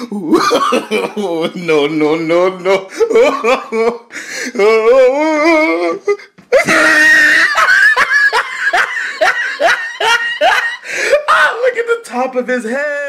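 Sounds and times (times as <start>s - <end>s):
boys laughing loudly: 0.0s - 11.7s.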